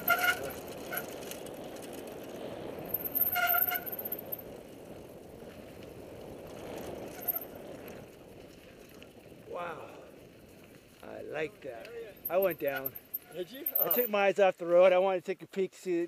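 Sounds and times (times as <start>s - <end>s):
bike tyre and wind rush: 0.0s - 13.7s.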